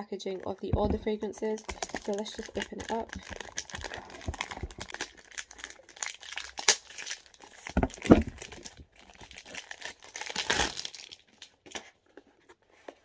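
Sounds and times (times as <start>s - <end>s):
plastic wrap crinkling and tearing: 0.4s - 12.5s.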